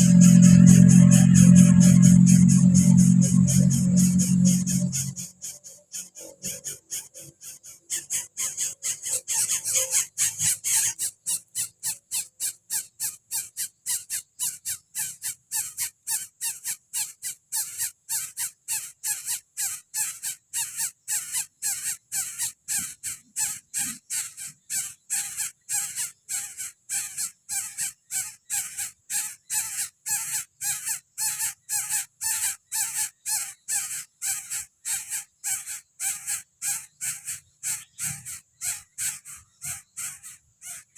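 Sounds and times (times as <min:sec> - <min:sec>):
nestling raspy begging calls: 0:00.0 - 0:40.9.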